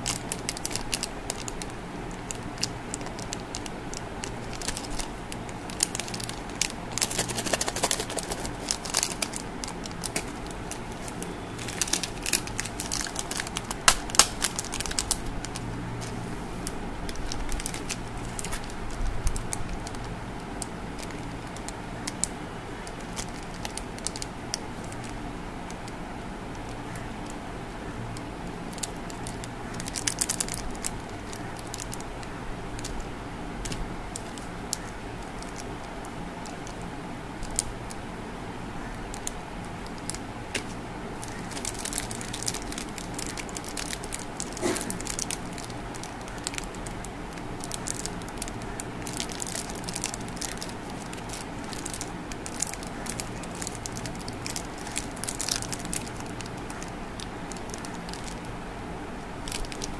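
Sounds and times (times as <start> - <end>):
plastic wrappers crinkling: 0.0 - 27.4, 28.2 - 38.0, 38.8 - 58.6, 59.4 - 59.9.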